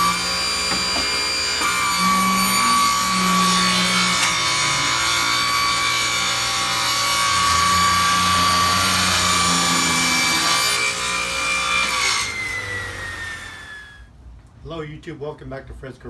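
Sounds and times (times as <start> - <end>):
saw cutting wood: 0.0 - 14.0
table saw blade whine: 0.0 - 14.1.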